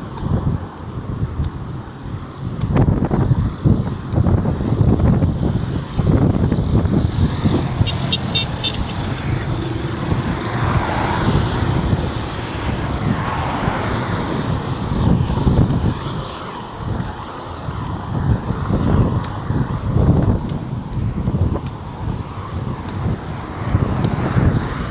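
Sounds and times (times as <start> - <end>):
highway traffic passing: 0.0 - 24.9
wind rumbling on microphone: 0.0 - 24.9.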